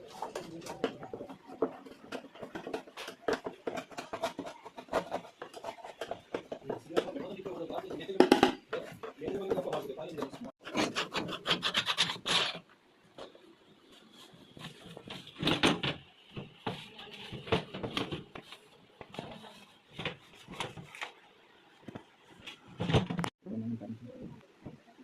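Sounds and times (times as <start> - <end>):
scrapes and knocks: 0.0 - 21.2.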